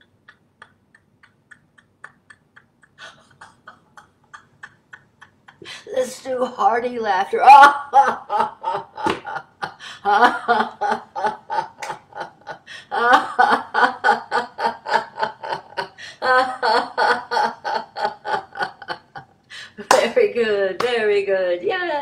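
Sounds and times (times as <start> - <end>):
woman laughing heartily: 0.0 - 6.0, 7.7 - 19.8.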